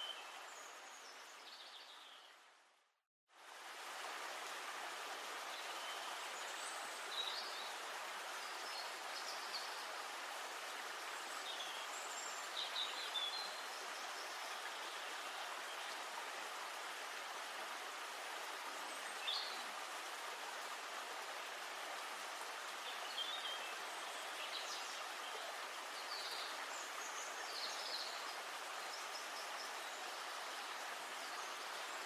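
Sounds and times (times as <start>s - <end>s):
river water flowing: 0.0s - 32.0s.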